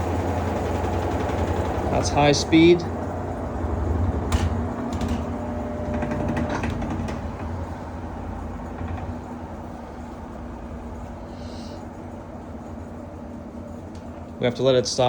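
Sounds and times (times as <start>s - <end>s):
washer motor humming: 0.0s - 15.0s.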